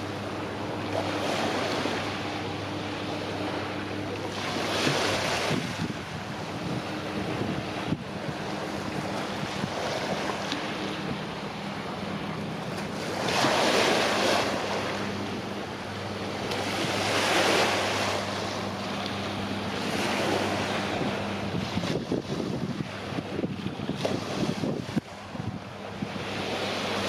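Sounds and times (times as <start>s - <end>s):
low boat engine hum: 0.0s - 27.0s
small waves washing ashore: 0.0s - 27.0s.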